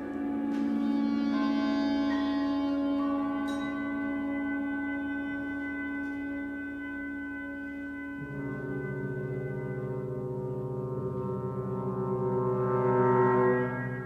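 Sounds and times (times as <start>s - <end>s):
low brass sustained chord: 0.0s - 14.0s
ringing held chord: 0.0s - 14.0s.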